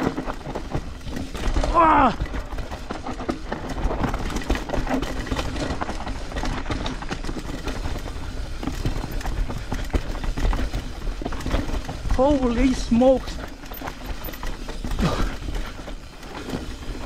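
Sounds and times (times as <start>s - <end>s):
bike clicks and rattles: 0.0s - 17.0s
bike tyres over dirt: 0.0s - 17.0s.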